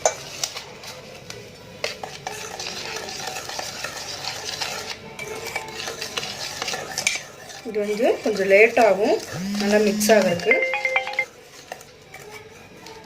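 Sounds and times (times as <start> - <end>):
utensil stirring batter in a bowl: 0.0 - 13.0.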